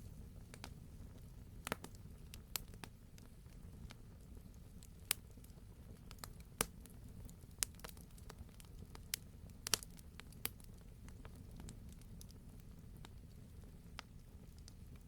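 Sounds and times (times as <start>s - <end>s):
low rumble of burning fire: 0.0s - 15.0s
wood fire pops and snaps: 0.4s - 15.0s.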